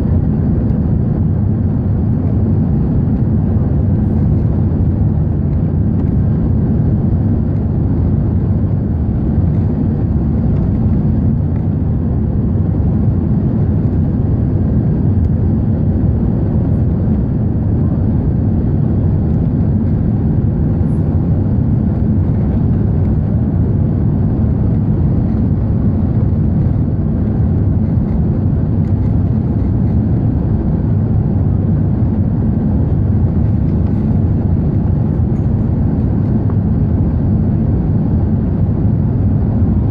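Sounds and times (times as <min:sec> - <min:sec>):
airliner engine roar: 0:00.0 - 0:39.9.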